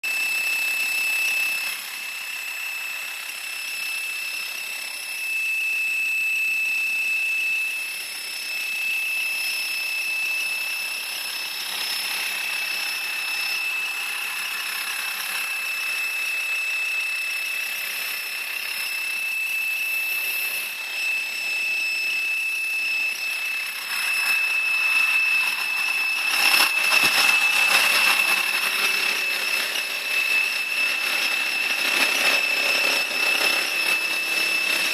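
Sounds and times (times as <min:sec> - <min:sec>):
engine idling with whistle: 0:00.1 - 0:11.6, 0:12.2 - 0:34.9.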